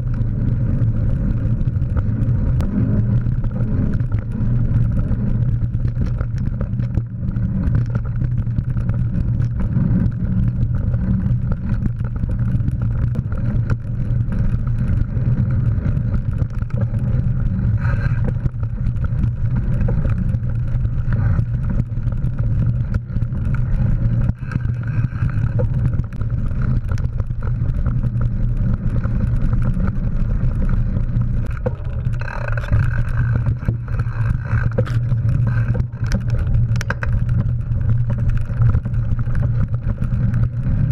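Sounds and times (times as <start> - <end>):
bike rolling on dirt trail: 0.0 - 40.9.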